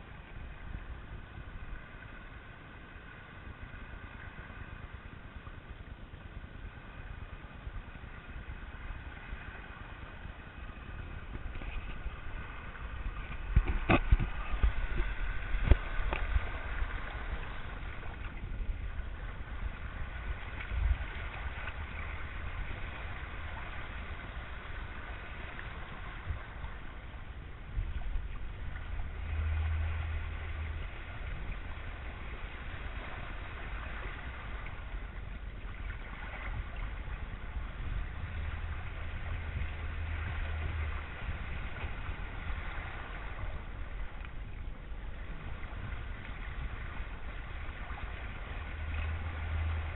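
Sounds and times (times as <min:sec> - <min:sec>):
low rumble: 0:00.0 - 0:49.9
water splashing past hulls: 0:00.0 - 0:49.9.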